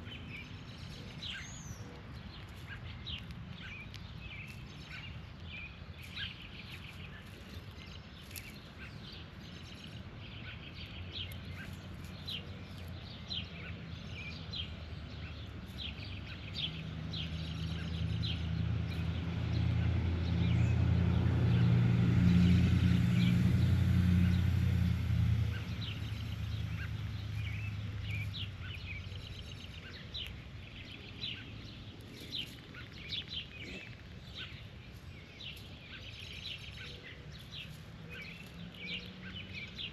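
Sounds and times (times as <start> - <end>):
birds chirping: 0.0 - 39.9
motor vehicle passing by: 0.0 - 39.9.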